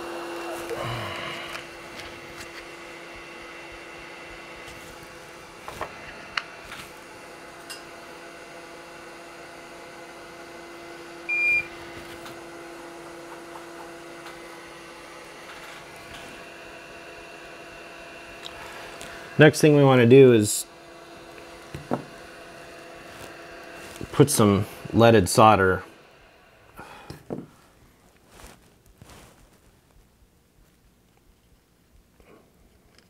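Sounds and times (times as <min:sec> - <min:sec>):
fan hum: 0:00.0 - 0:33.0.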